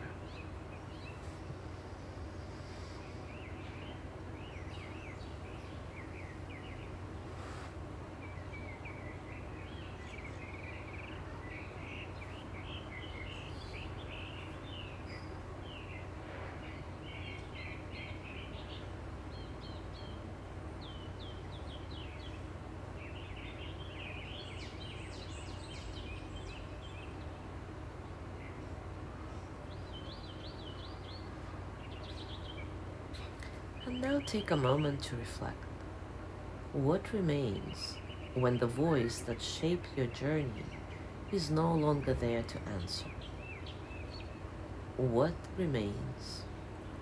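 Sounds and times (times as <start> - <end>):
low background hum: 0.0 - 47.0
small birds chirping: 0.0 - 47.0.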